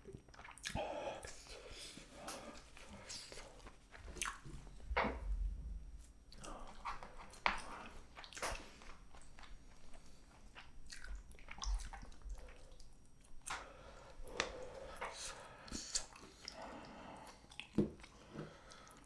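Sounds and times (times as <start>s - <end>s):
close chewing mouth sounds: 0.0s - 5.1s, 6.3s - 19.0s.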